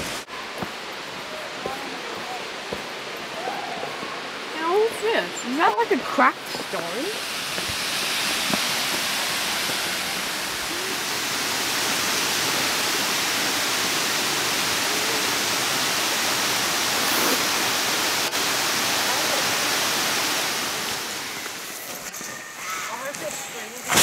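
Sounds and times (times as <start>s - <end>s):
water rushing over rock: 0.0s - 21.9s.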